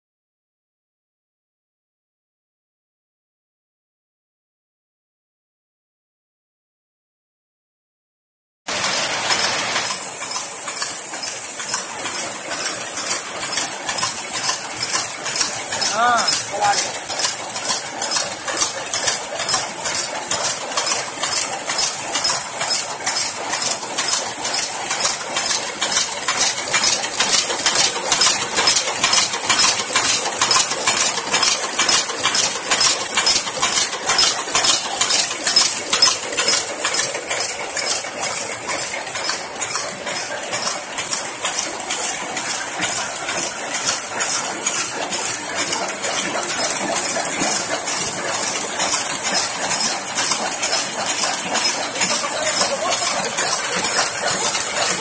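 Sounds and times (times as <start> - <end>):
machine metallic clacking: 8.7 - 55.0.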